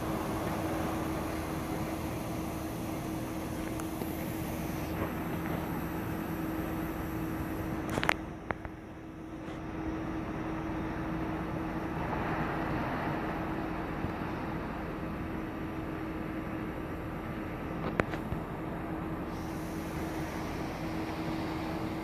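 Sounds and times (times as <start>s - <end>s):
constant low hum: 0.0s - 22.0s.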